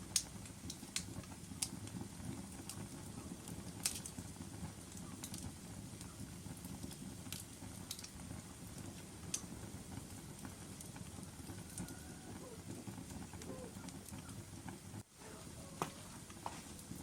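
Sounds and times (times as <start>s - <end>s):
sharp pops of burning wood: 0.0s - 15.1s, 15.7s - 17.0s
logs crackling in a fireplace: 0.0s - 17.0s.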